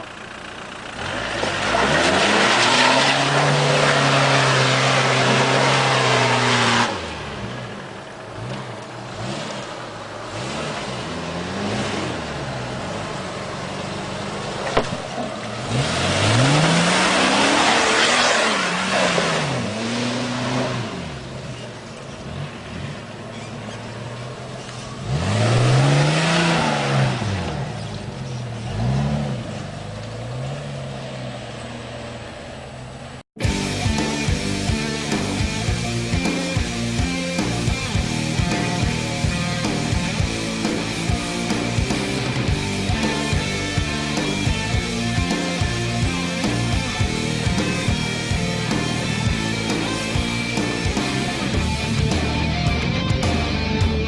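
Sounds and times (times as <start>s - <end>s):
engine revving hard: 0.9s - 13.1s, 14.8s - 21.6s, 24.9s - 28.0s, 28.6s - 30.7s, 33.4s - 54.0s.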